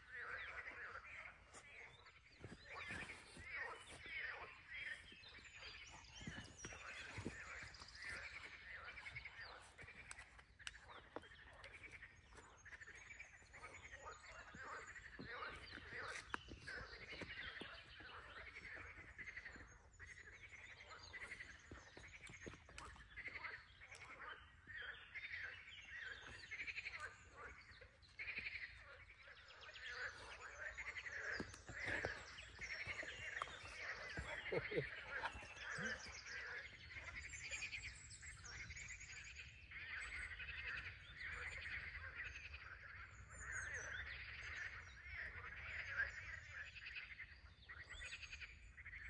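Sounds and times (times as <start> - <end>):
frogs croaking in chorus: 0.0 - 49.0.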